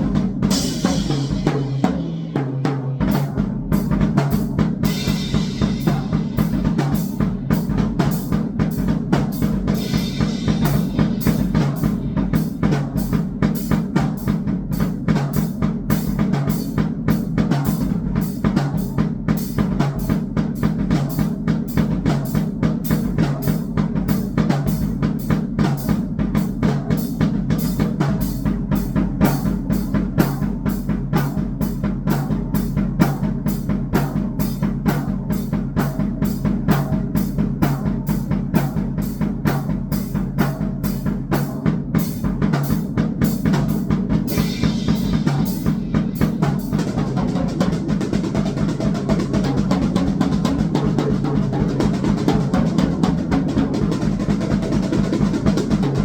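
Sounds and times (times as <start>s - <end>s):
drum kit beat: 0.0s - 56.0s.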